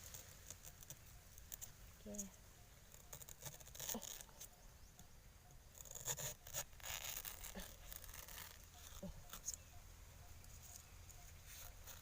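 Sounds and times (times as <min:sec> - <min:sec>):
scraping and rustling in dry leaves: 0:00.0 - 0:04.6, 0:05.7 - 0:09.7, 0:10.4 - 0:12.0.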